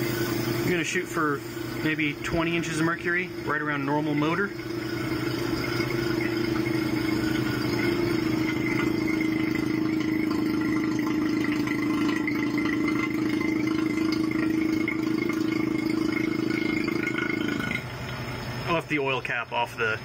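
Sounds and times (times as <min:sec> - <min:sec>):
vacuum pump pulsing hum: 0:00.0 - 0:20.0.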